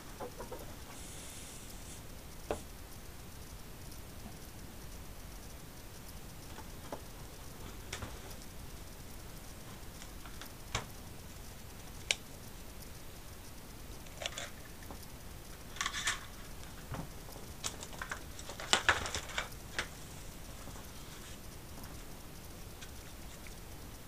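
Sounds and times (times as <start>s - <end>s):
crackling bursts: 0.1s - 24.0s.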